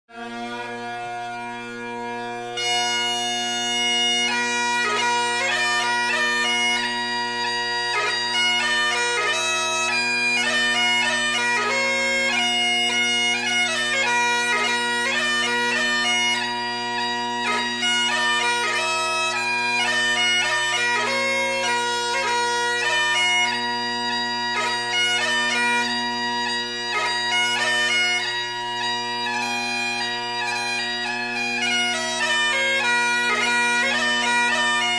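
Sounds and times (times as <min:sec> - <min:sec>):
bagpipe chanter melody: 0:00.1 - 0:34.9
bagpipe drones: 0:00.1 - 0:34.9.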